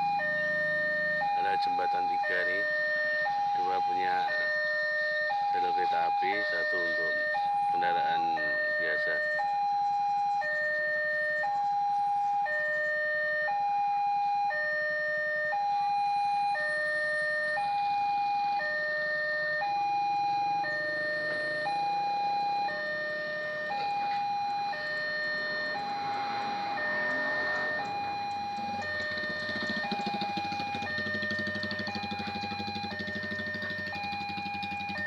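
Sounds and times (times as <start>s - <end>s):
level crossing two-tone alarm: 0.0s - 35.0s.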